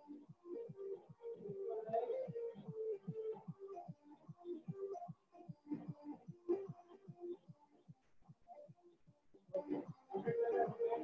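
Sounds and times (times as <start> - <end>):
electronic background music: 0.0 - 11.0.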